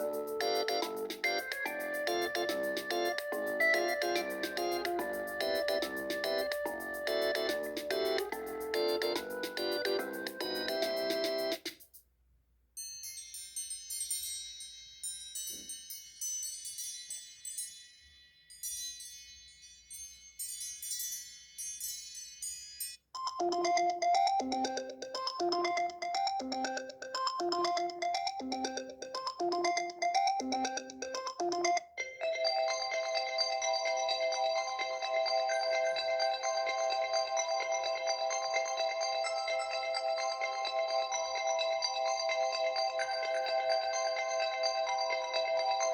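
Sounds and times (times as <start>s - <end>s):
high tinkling ringtone: 0.0s - 11.6s, 12.8s - 45.9s
lower repeating ringtone melody: 0.0s - 11.7s, 13.0s - 45.9s.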